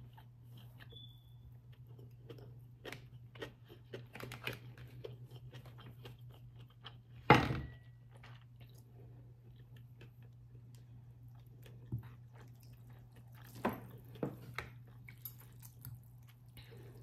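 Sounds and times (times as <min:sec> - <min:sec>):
chewing food: 0:00.0 - 0:17.0.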